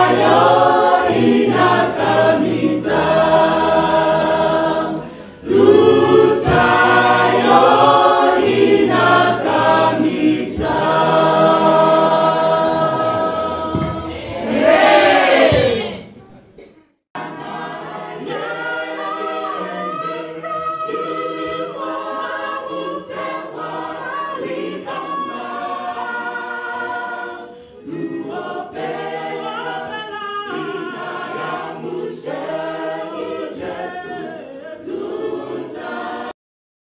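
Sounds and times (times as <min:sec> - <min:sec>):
choir singing: 0:00.0 - 0:16.2, 0:17.2 - 0:36.4.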